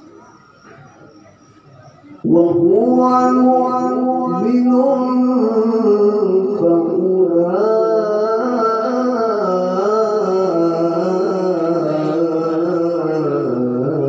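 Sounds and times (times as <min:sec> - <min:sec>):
man reciting melodically: 0:02.2 - 0:14.0.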